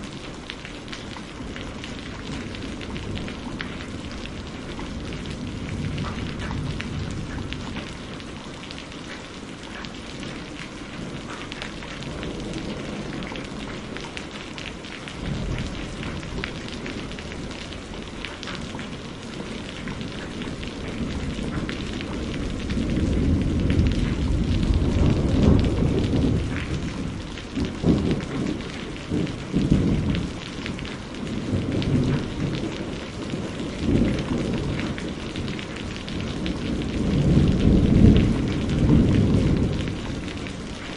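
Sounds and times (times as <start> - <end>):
heavy rain: 0.0 - 40.9
low rolling thunder: 0.0 - 40.9.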